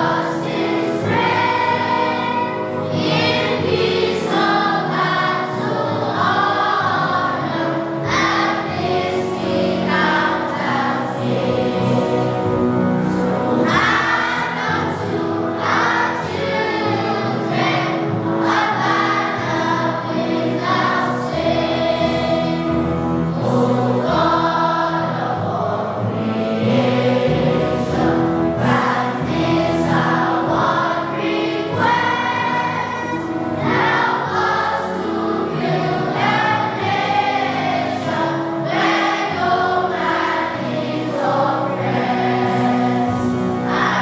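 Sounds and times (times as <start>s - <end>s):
choir singing: 0.0s - 44.0s
instrumental accompaniment: 0.0s - 44.0s.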